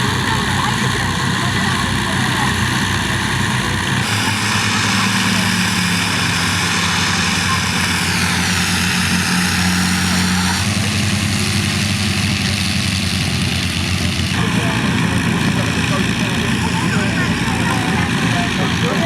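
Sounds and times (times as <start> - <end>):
propeller engines droning: 0.0 - 19.0.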